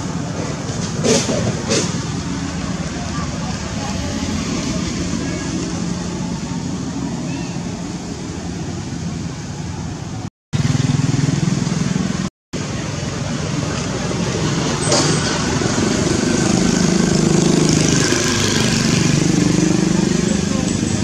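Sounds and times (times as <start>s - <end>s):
motorbike engines: 0.0s - 21.0s
street traffic: 0.0s - 21.0s.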